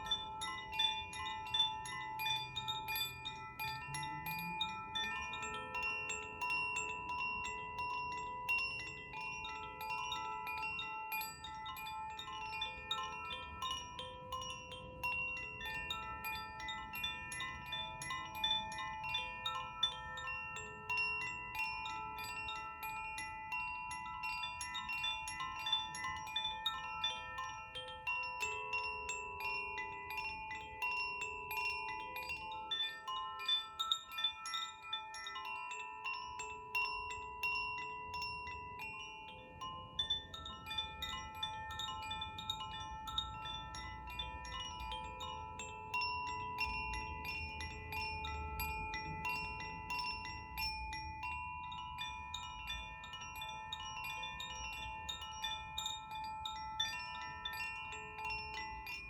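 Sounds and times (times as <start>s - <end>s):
chimes tinkling: 0.0s - 59.0s
crystal singing bowls ringing: 0.0s - 59.0s.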